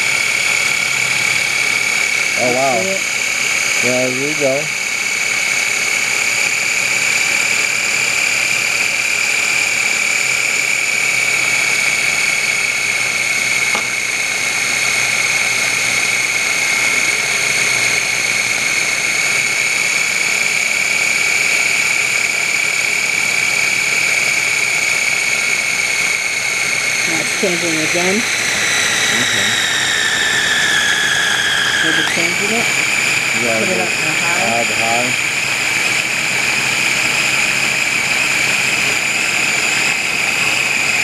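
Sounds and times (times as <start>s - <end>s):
food processor motor whining: 0.0s - 41.0s.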